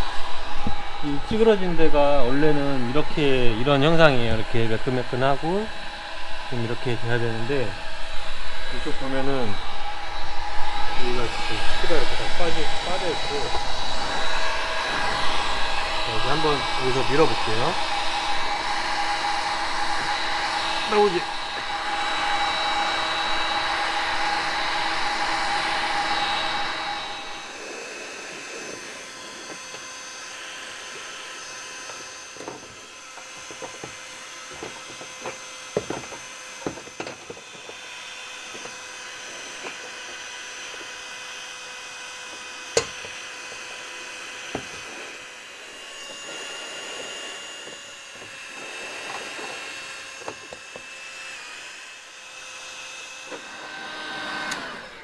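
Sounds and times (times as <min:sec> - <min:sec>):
heat gun blowing: 0:00.0 - 0:55.0.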